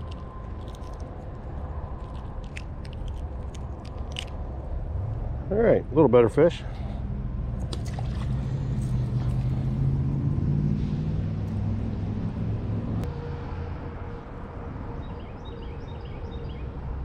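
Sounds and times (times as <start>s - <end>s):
vehicle engine rumble passing: 0.0s - 17.0s.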